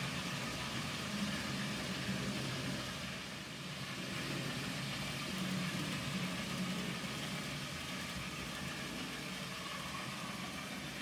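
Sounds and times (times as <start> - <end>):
model train motors humming: 0.0 - 11.0.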